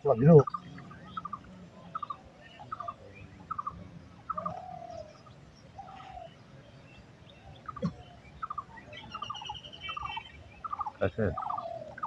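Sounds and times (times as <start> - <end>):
longer lower bird calls: 0.0 - 12.0.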